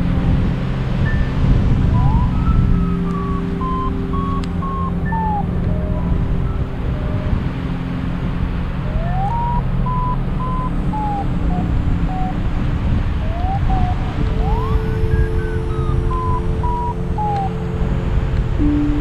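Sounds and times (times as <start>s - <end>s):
variometer beeping: 0.0s - 8.0s, 8.8s - 19.0s
wind rushing on microphone: 0.0s - 19.0s.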